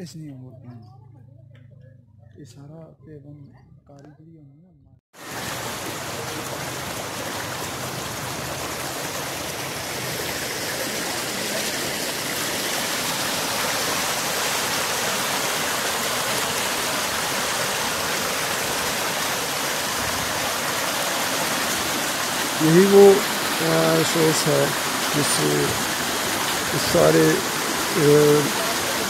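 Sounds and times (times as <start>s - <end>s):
water rushing down a channel: 5.2s - 29.0s.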